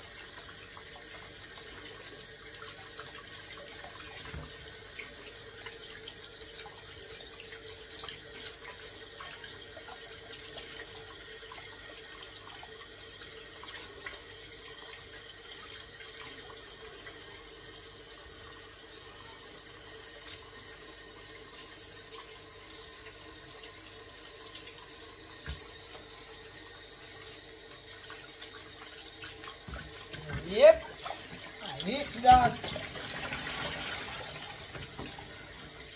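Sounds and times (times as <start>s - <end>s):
tap water running into sink: 0.0s - 35.9s.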